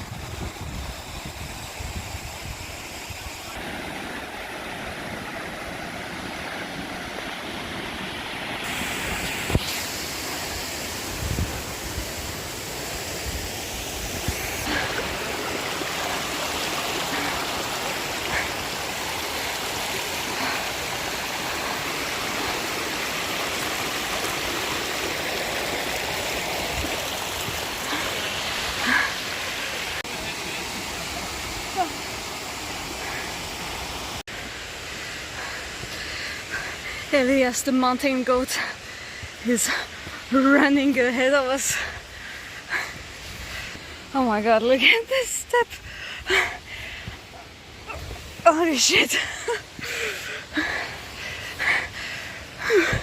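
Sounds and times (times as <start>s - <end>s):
water rushing over falls: 0.0s - 53.0s.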